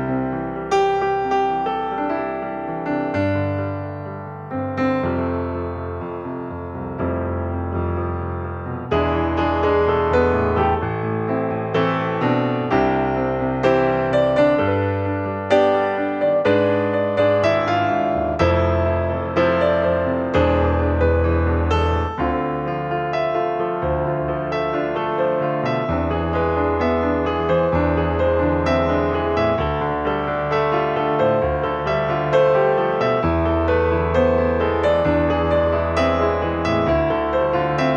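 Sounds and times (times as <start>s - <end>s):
calm solo piano music: 0.0s - 37.9s.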